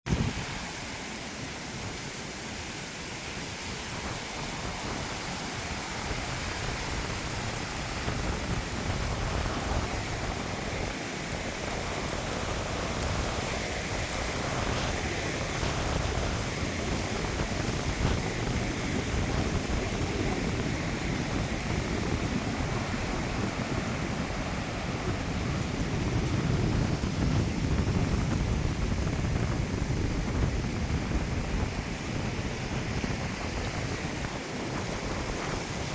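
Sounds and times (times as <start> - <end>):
ocean surf on beach: 0.1 - 35.9
wind on microphone: 0.1 - 35.9.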